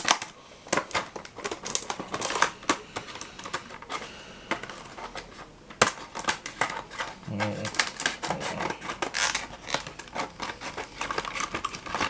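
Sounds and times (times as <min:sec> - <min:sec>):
plastic packaging crackling: 0:00.0 - 0:12.0.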